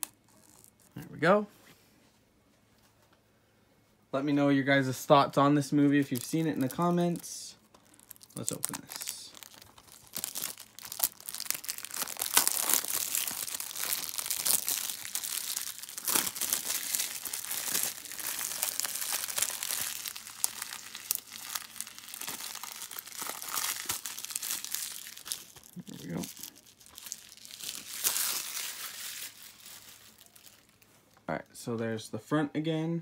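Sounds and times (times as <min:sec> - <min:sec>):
plastic shrink wrap crinkling: 0:00.0 - 0:01.1, 0:05.8 - 0:31.2.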